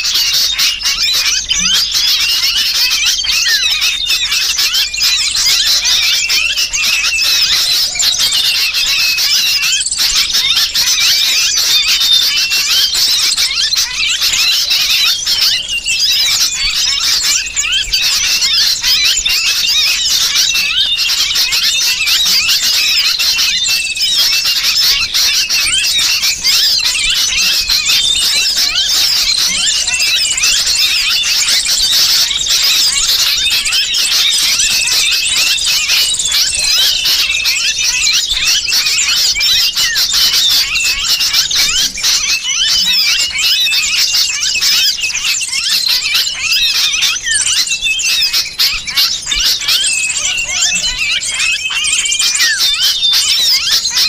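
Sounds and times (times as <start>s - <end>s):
small birds chirping and squealing: 0.0s - 54.0s.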